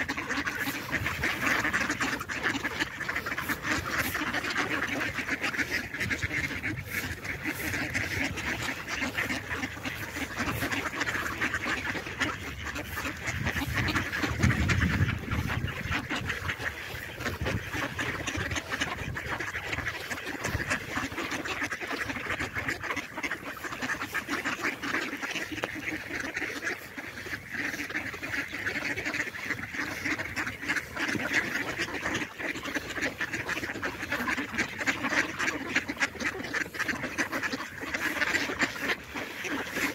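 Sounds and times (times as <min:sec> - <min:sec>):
flock of ducks quacking: 0:00.0 - 0:39.9.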